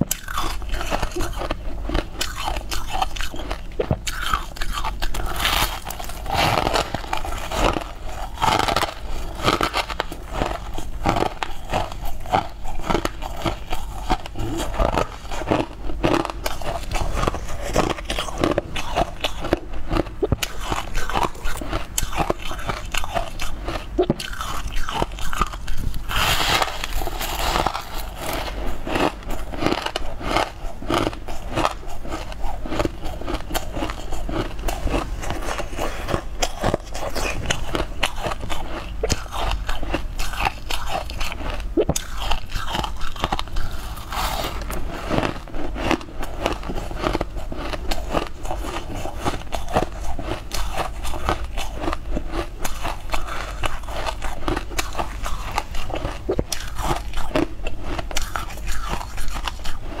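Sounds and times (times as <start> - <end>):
crunching and chewing: 0.0 - 60.0.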